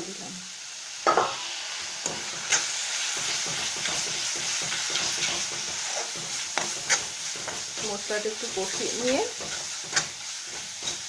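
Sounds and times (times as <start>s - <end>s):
paste sizzling in oil: 0.0s - 11.0s
spatula scraping pan: 2.0s - 11.0s.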